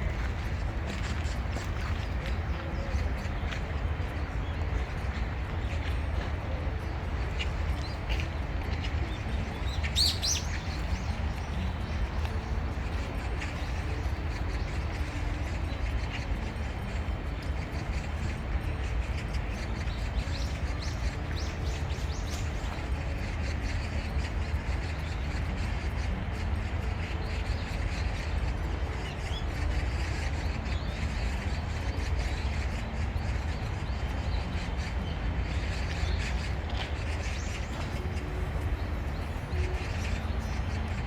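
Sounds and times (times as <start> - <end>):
small birds chirping: 0.0 - 41.0
steady low rumble: 0.0 - 41.0.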